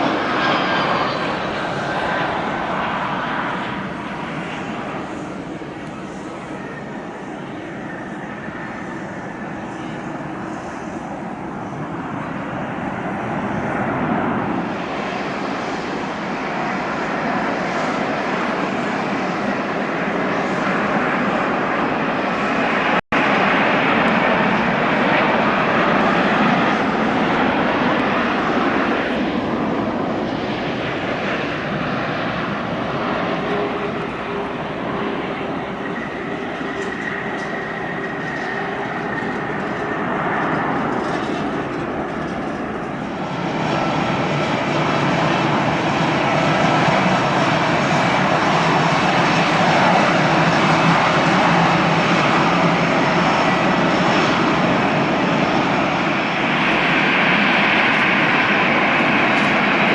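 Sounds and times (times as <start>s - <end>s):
airliner engines running: 0.0s - 59.9s.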